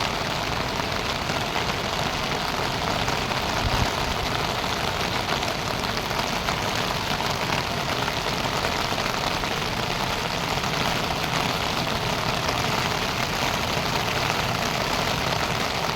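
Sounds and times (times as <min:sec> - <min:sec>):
heavy rain rushing: 0:00.0 - 0:15.9.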